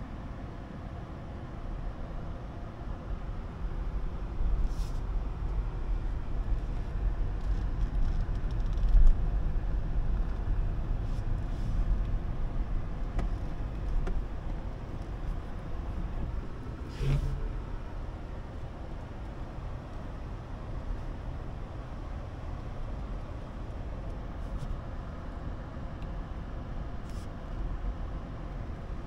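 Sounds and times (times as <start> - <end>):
tyres rumbling on road: 0.1 - 29.0.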